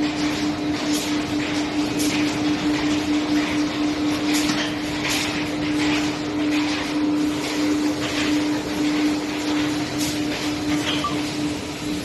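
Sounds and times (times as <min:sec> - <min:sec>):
blower fans humming: 0:00.0 - 0:12.0.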